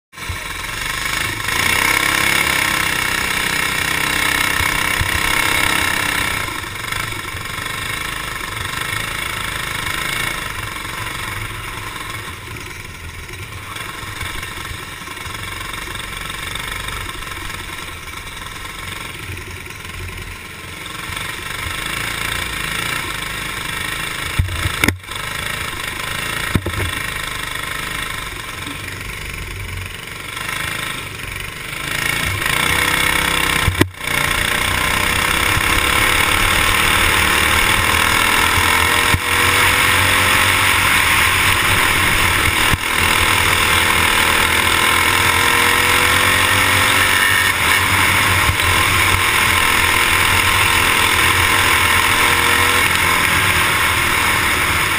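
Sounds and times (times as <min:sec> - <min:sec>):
kart engine running: 0:00.1 - 0:54.9.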